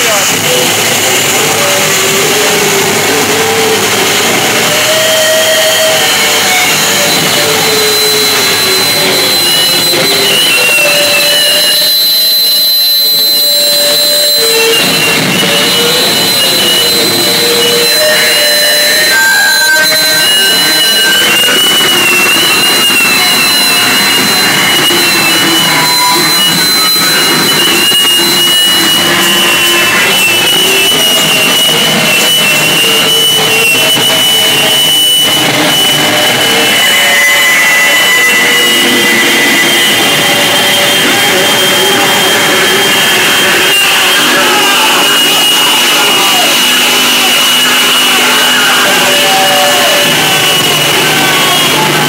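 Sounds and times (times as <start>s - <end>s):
harsh electronic noise music: 0.0s - 52.0s
high steady whine: 0.0s - 52.0s
squealing feedback tones: 0.0s - 52.0s.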